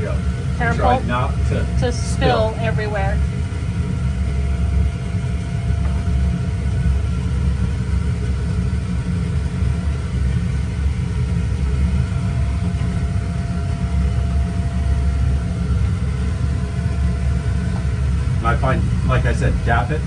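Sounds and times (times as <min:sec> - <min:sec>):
faint constant hum: 0:00.0 - 0:20.0
low mechanical rumble: 0:00.0 - 0:20.0.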